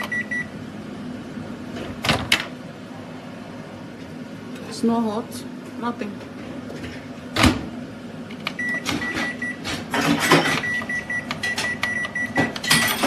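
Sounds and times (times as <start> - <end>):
microwave low hum: 0.0 - 13.0.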